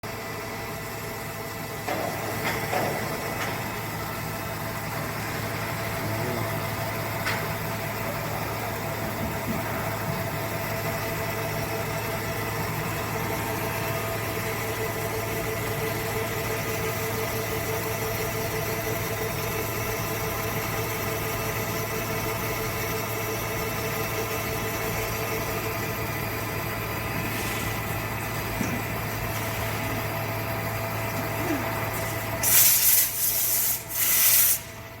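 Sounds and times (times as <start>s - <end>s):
machine hum with whining tones: 0.0s - 35.0s.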